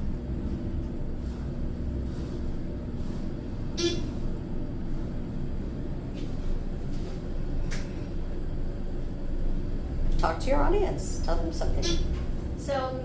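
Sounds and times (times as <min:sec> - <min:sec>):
elevator motor hum: 0:00.0 - 0:13.0.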